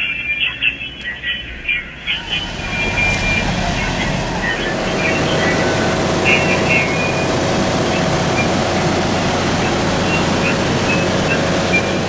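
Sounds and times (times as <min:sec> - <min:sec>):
passenger train car running: 0:00.0 - 0:12.0.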